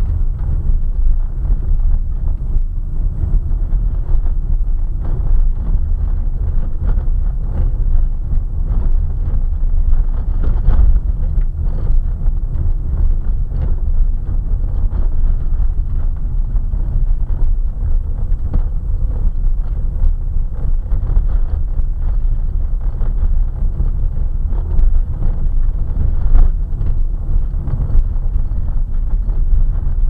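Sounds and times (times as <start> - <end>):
car tyres rumbling: 0.0 - 30.0
gravel knocks and crackles: 4.8 - 30.0.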